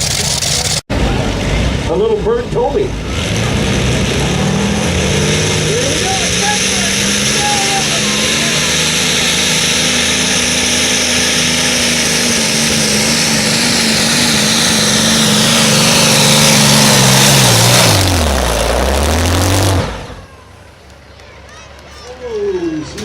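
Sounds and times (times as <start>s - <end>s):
tractor engine running hard: 0.0s - 21.2s.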